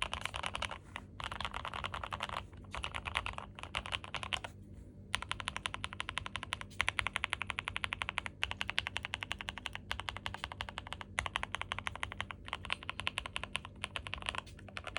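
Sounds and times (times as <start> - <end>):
fast typing on mechanical keyboard: 0.0 - 4.5, 5.1 - 14.9.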